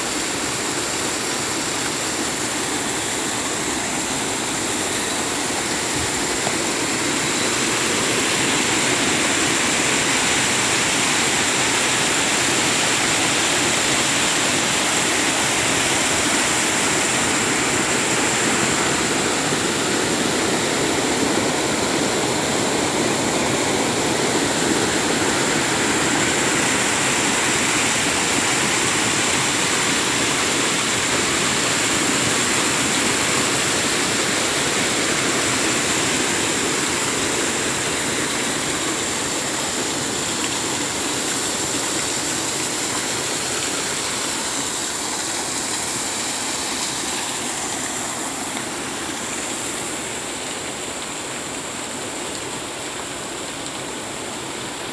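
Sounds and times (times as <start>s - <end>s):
water gushing from burst main: 0.0s - 54.9s.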